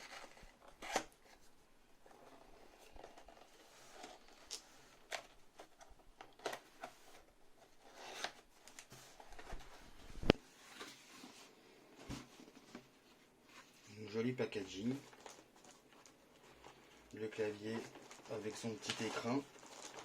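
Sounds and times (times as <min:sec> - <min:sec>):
cardboard packaging rustling: 0:00.0 - 0:13.8, 0:14.6 - 0:20.0.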